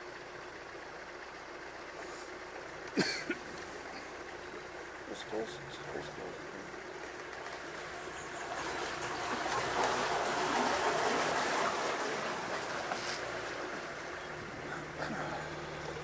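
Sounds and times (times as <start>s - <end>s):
boat engine running low: 0.0s - 16.0s
water rushing around boat: 3.0s - 16.0s.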